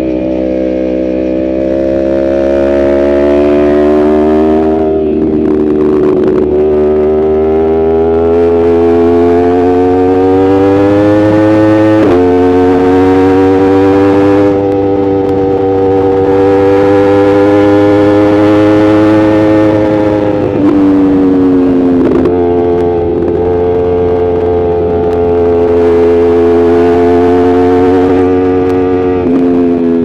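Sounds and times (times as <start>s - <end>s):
motorcycle engine high revs howl: 0.0s - 30.0s.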